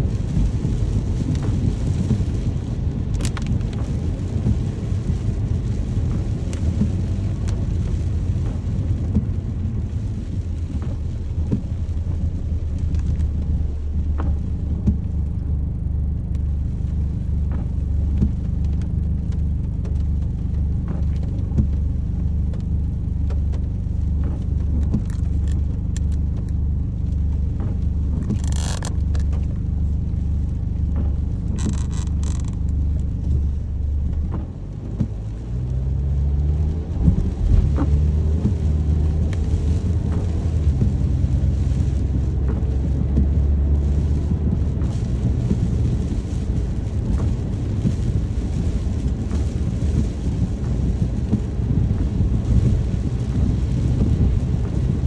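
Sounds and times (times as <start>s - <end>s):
low rumble: 0.0s - 55.0s
rain: 0.0s - 55.0s.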